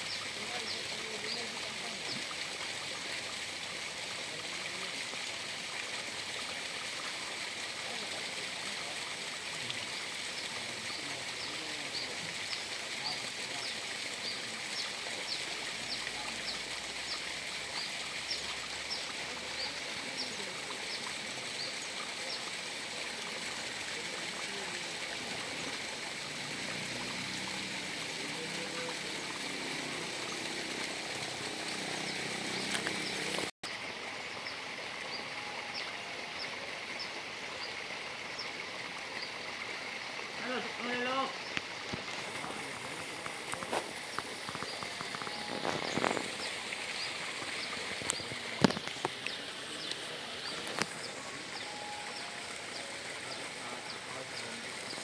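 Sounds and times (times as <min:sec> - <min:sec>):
faint low voices: 0:00.2 - 0:17.5, 0:18.8 - 0:33.5, 0:40.3 - 0:55.0.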